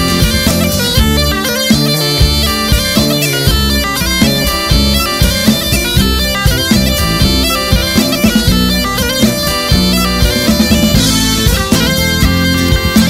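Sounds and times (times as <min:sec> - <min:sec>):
bagpipe playing fast melody: 0:00.0 - 0:13.0
steady beat: 0:00.0 - 0:13.0.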